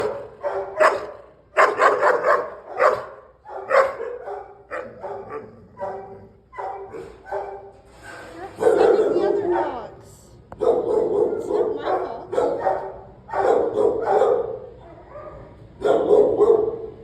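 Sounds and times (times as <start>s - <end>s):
dog barking aggressively: 0.0s - 7.7s, 8.6s - 9.8s, 10.6s - 17.0s.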